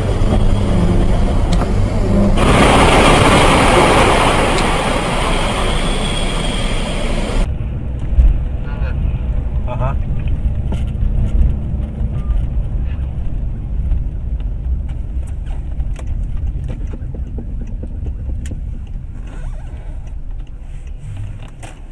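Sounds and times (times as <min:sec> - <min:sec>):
low rumble of engine and tyres: 0:00.0 - 0:21.9.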